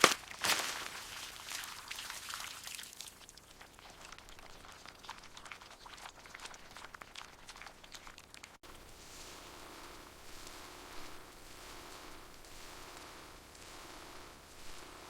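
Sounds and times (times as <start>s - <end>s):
crunching and crinkling: 0.0s - 12.6s.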